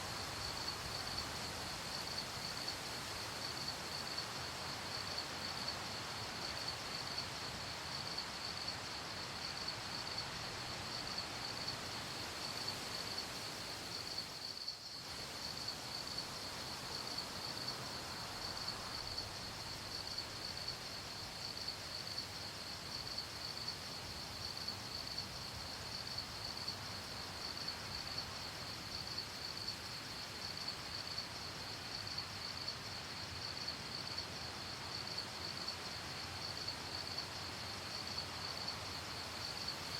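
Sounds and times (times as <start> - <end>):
crickets chirping: 0.0 - 39.9
faint background hiss: 0.0 - 39.9.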